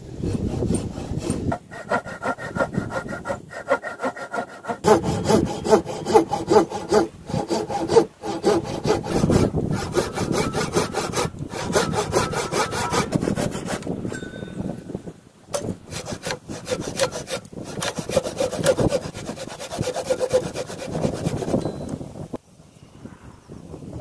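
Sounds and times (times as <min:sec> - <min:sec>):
hand saw cutting wood: 0:00.0 - 0:14.0, 0:15.6 - 0:21.6.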